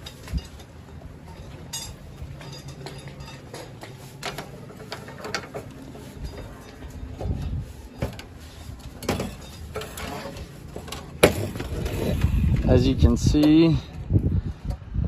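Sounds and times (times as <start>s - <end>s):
tools clicking and scraping on roofing: 0.0s - 12.7s.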